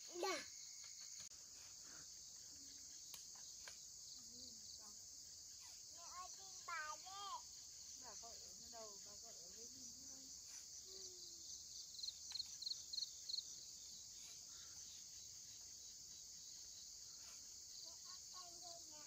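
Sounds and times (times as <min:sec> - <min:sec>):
loud insect chirps: 0:00.0 - 0:19.0.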